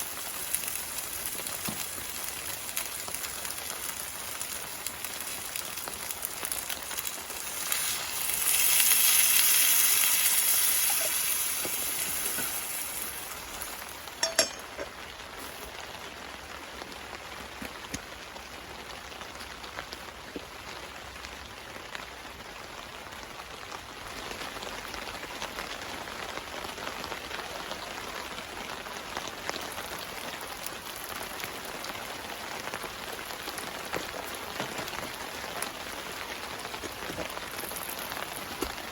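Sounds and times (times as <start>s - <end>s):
rain pattering on a tarp: 0.0s - 38.9s.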